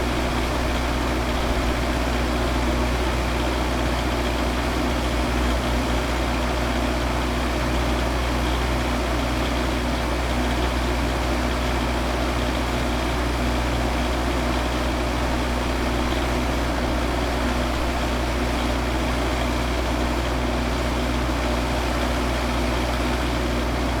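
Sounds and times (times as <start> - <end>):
van engine idling: 0.0 - 24.0.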